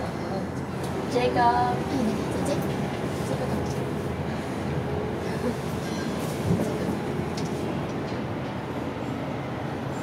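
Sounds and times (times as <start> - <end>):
vehicle rumbling in motion: 0.0 - 10.0.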